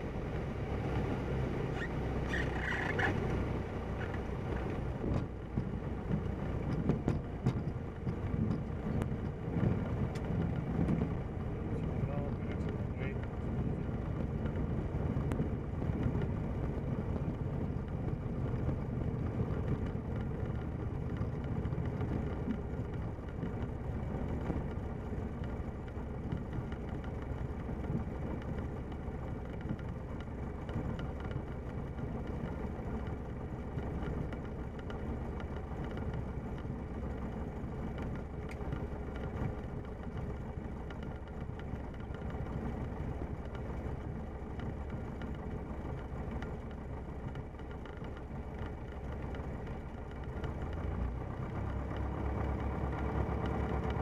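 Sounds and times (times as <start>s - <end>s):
light aircraft engine running: 0.0s - 54.0s.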